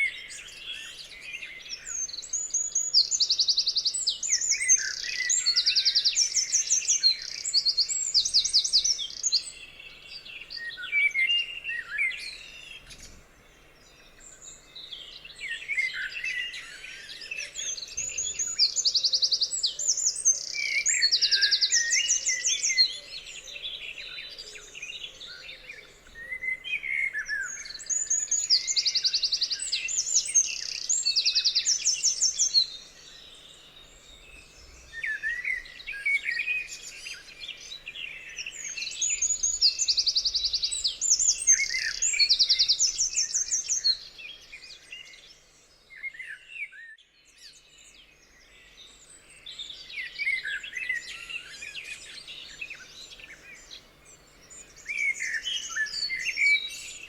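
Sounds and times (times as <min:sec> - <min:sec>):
bird chirps and calls: 0:00.0 - 0:57.0.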